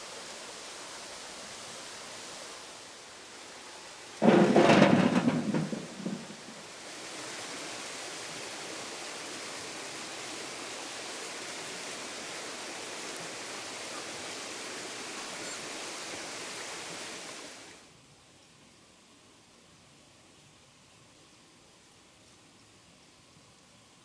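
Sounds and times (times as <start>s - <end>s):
rushing water: 0.0s - 22.9s.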